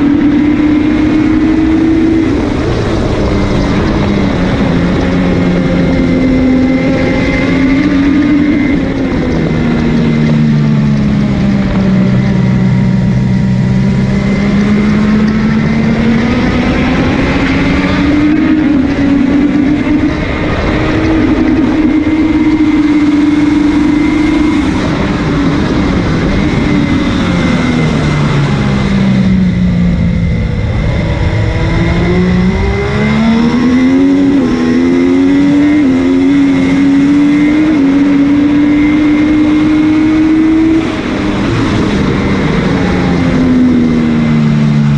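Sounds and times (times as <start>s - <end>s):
motorcycle engine at racing speed: 0.0s - 44.9s
wind rush: 0.0s - 44.9s.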